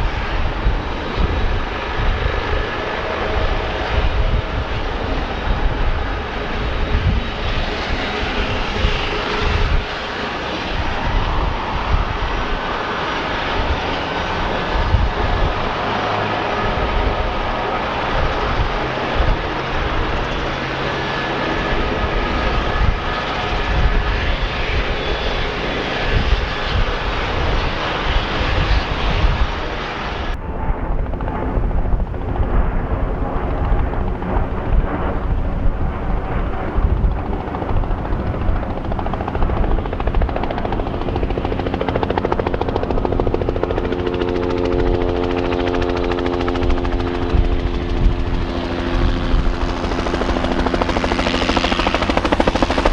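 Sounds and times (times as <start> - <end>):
helicopter rotor and engine: 0.0 - 52.9
multi-tone whine: 0.0 - 52.9.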